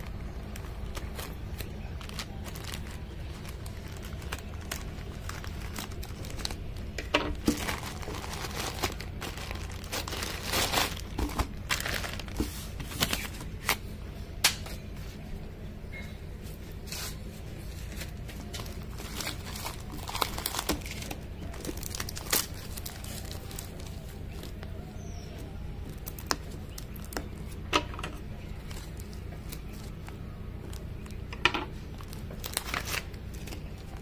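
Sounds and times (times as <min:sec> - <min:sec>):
plastic mailer bag crinkling and tearing: 0:00.0 - 0:13.9, 0:17.6 - 0:27.6, 0:28.4 - 0:34.0.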